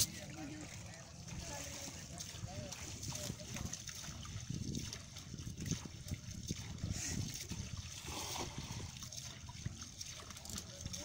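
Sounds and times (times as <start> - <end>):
small splashes: 0.0 - 11.0
water dripping and trickling: 0.0 - 11.0.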